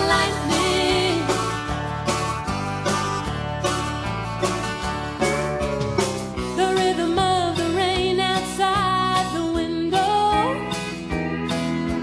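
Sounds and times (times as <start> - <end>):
country song with full band: 0.0 - 12.0.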